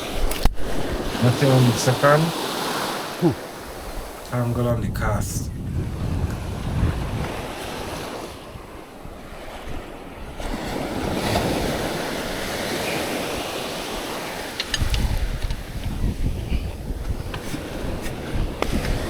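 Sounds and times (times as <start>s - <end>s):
sea waves washing onto shore: 0.0s - 19.0s
wind buffeting microphone: 0.0s - 19.0s.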